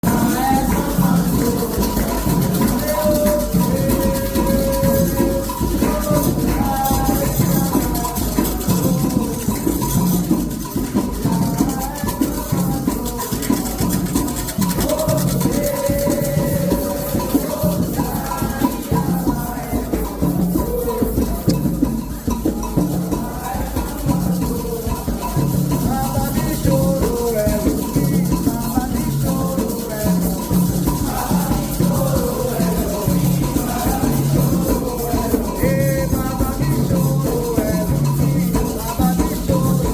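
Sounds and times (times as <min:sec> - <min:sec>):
hand drums: 0:00.0 - 0:39.9
shaken rattles: 0:00.0 - 0:39.9.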